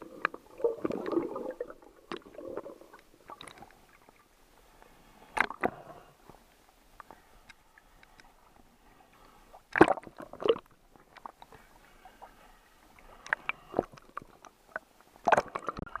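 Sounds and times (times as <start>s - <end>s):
muffled water sloshing and splashing: 0.0s - 16.0s.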